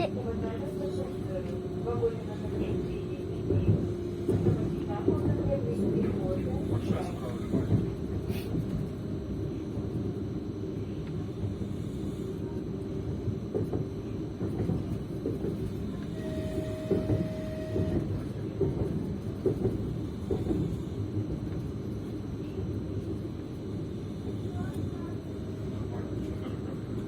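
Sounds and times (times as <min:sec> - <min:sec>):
train wheels rumbling on rails: 0:00.3 - 0:10.2, 0:11.0 - 0:27.0.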